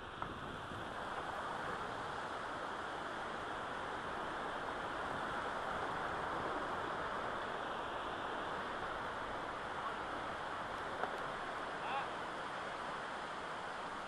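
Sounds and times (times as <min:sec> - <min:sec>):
water rushing over concrete: 0:00.0 - 0:14.0.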